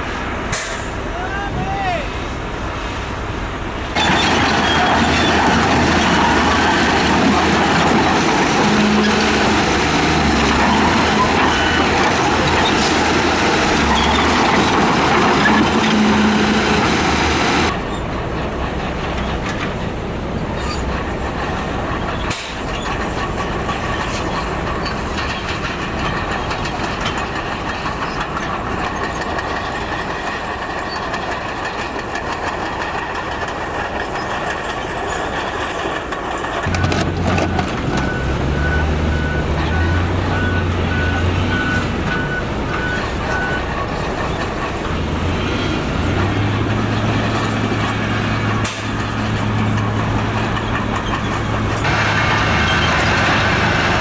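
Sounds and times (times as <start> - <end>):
heavy diesel machinery working: 0.0 - 54.0.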